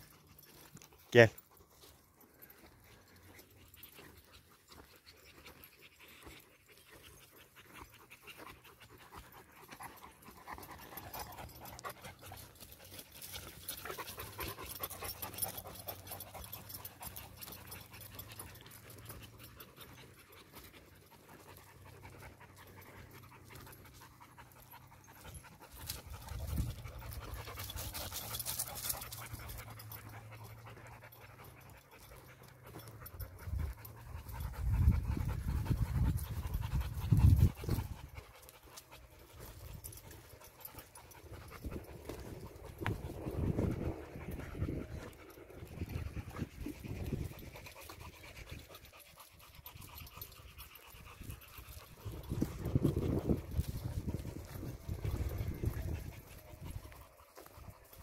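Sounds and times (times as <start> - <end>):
dog panting: 0.0 - 58.0.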